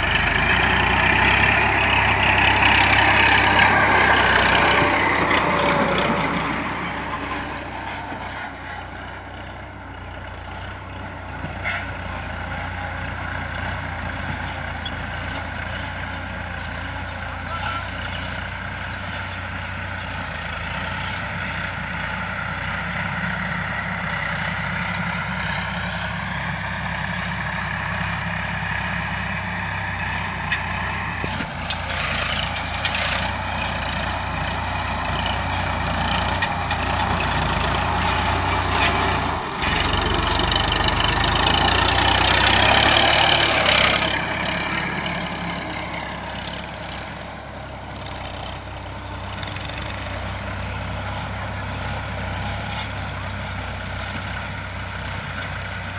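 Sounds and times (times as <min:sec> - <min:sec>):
engine knocks: 0:00.0 - 0:55.9
tractor diesel engine running: 0:00.0 - 0:55.9.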